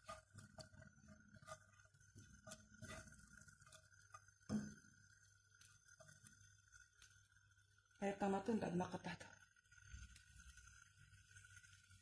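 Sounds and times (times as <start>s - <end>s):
garlic frying in oil: 0.0s - 12.0s.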